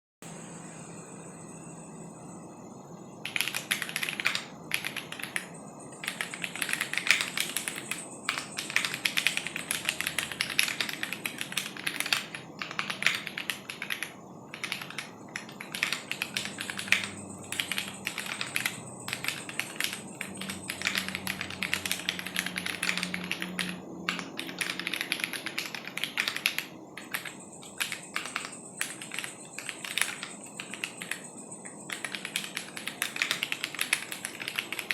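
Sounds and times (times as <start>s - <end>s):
mechanical keyboard typing: 3.2s - 34.9s.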